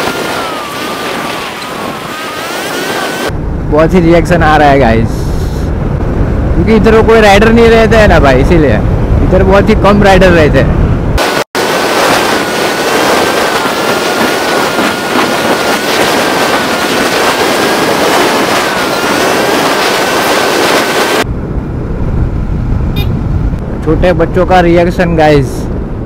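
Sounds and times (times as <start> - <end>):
wind rushing over microphone: 0.0 - 26.0
engine and road rumble: 3.3 - 11.6, 12.9 - 26.0.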